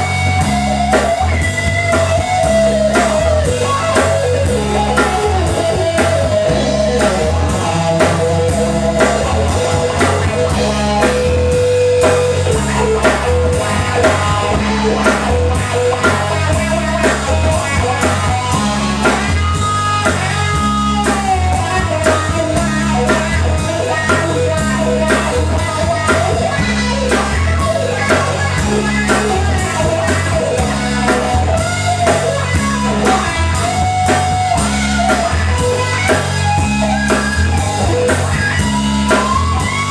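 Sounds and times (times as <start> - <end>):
drum kit: 0.0 - 39.9
guitar: 0.0 - 39.9
repeating bass line: 0.0 - 39.9.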